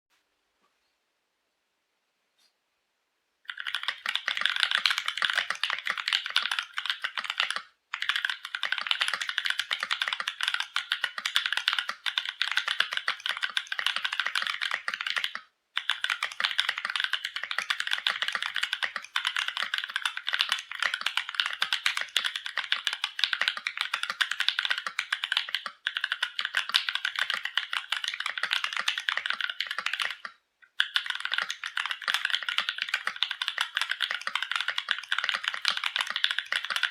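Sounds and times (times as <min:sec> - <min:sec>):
typing on mechanical keyboard: 0:03.5 - 0:36.9.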